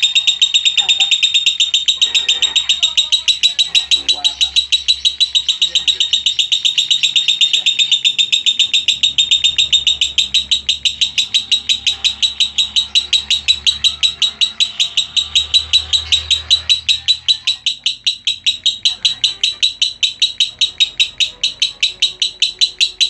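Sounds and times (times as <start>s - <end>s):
bird singing rapid high chirps: 0.0s - 23.0s.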